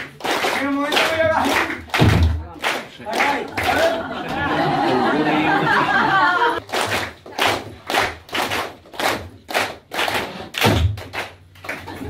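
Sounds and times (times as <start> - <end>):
people clapping in rhythm: 0.0 - 12.0.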